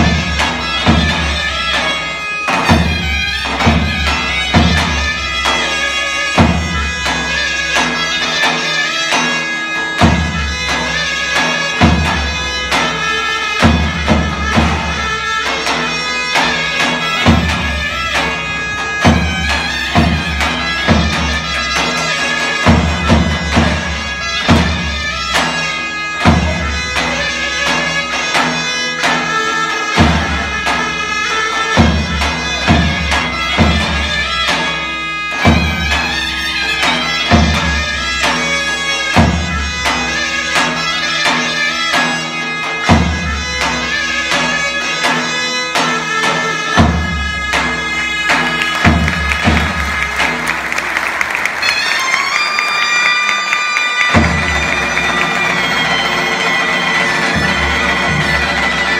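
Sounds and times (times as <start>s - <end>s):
zurna drone: 0.0s - 58.9s
zurnas playing a slow tune: 0.0s - 58.9s.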